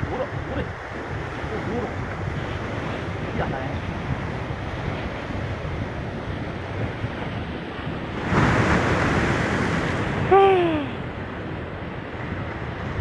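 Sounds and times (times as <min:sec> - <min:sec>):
sea surf washing in: 0:00.0 - 0:13.0
wind buffeting microphone: 0:00.0 - 0:13.0.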